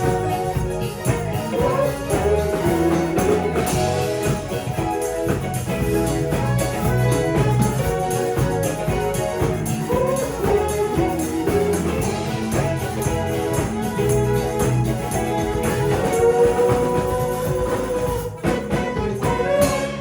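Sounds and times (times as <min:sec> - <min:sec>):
bass: 0:00.0 - 0:20.0
drum kit with cymbals: 0:00.0 - 0:20.0
melodic instruments: 0:00.0 - 0:20.0.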